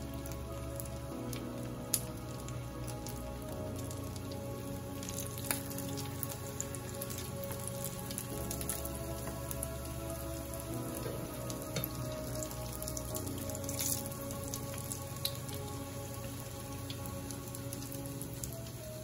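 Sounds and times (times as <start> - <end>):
oil sizzling and popping: 0.0 - 19.0
soft background music: 0.0 - 19.0.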